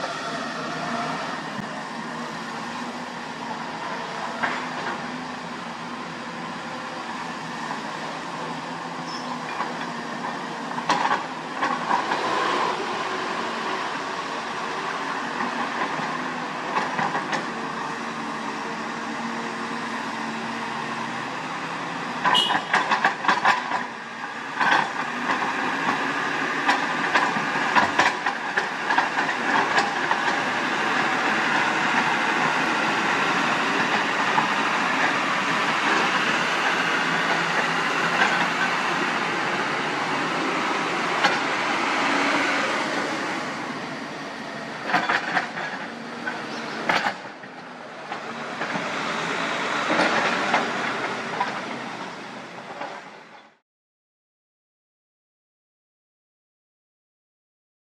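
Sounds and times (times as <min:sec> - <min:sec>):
dump trucks driving past: 0:00.0 - 0:53.6.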